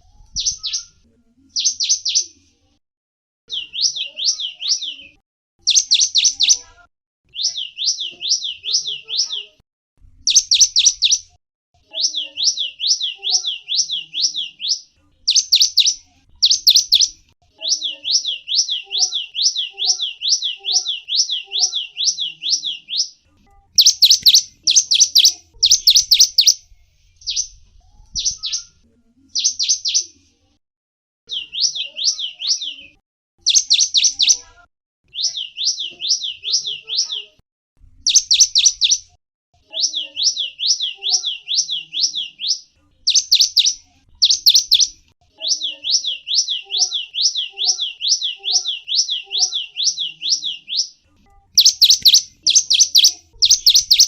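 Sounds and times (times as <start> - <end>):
songbird chirping in rapid trills: 0.2 - 2.4, 3.5 - 6.7, 7.3 - 9.6, 10.2 - 30.2, 31.3 - 34.5, 35.1 - 37.4, 38.0 - 39.1, 39.7 - 54.0.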